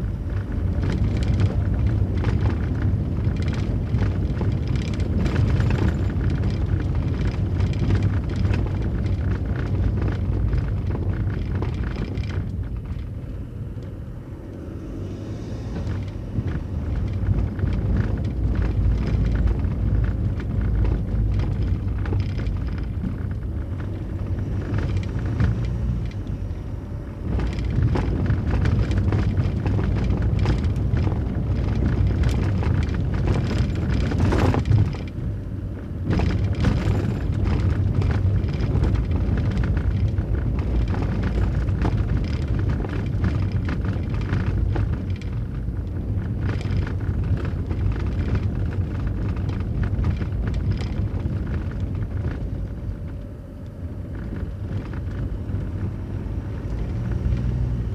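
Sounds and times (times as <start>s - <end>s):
tyres rumbling on cobblestones: 0.0s - 57.9s
rattle of small clicks: 0.3s - 13.2s, 15.8s - 26.4s, 27.2s - 35.4s, 36.0s - 55.9s.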